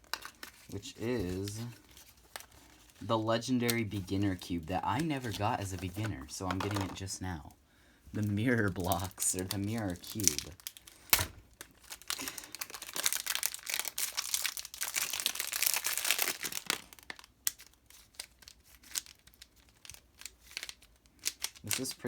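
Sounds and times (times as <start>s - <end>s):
packaging crinkling and rustling: 0.0s - 7.5s, 8.2s - 22.0s.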